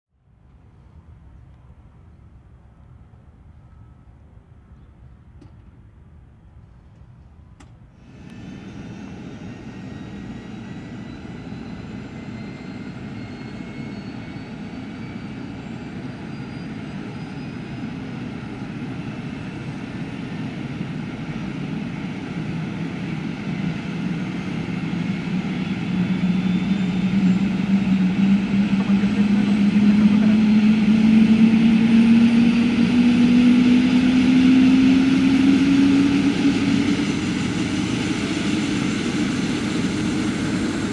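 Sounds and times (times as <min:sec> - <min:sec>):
helicopter spooling up: 0:08.0 - 0:40.9.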